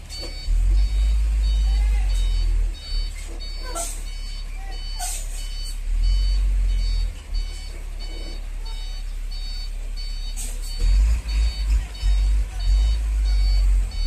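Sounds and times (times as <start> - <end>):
diesel engine rumble: 0.0 - 14.0
truck reversing alarm beeps: 0.0 - 14.0.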